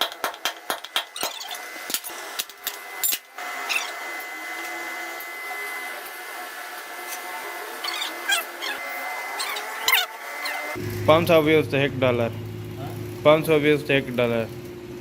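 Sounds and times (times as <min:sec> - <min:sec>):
power tool whining: 0:01.3 - 0:13.5.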